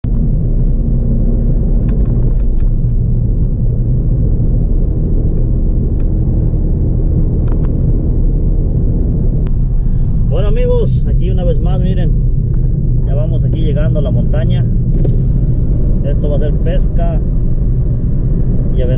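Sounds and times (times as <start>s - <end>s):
car interior road rumble: 0.0s - 18.9s.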